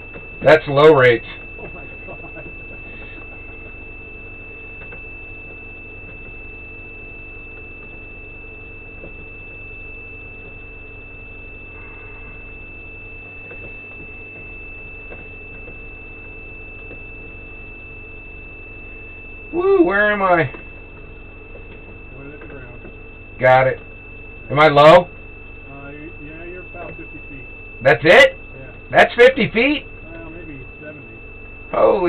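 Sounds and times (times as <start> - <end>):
high-pitched electronic whine: 0.0 - 32.0
low electrical hum: 0.0 - 32.0.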